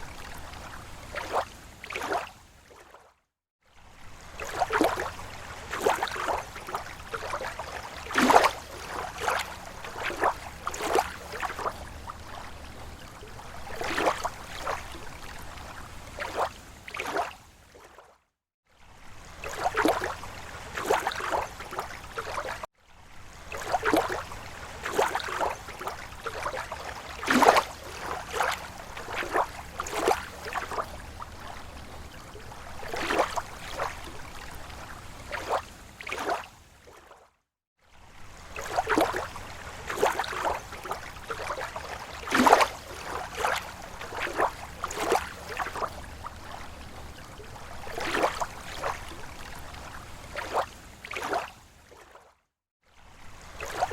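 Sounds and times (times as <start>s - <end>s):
small waves lapping on shore: 0.0s - 53.9s.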